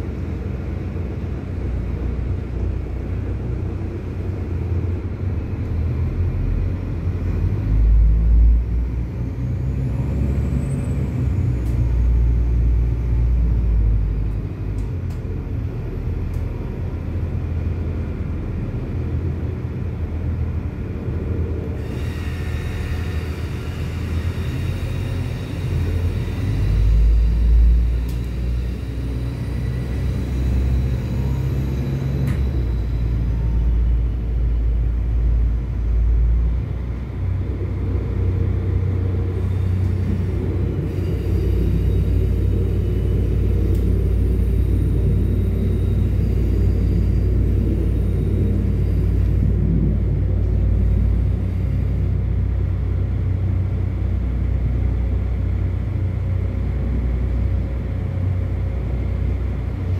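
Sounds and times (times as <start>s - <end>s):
train rumble inside carriage: 0.0s - 59.9s.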